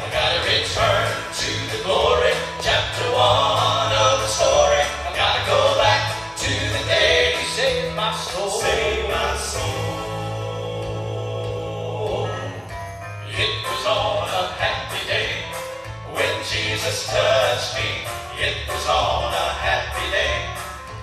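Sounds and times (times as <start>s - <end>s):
vocal group singing in harmony: 0.0s - 20.6s
instrumental accompaniment: 0.0s - 21.0s.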